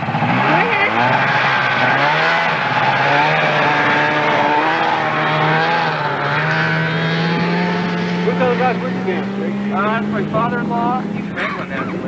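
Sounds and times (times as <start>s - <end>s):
snowmobile engines running: 0.0s - 12.0s.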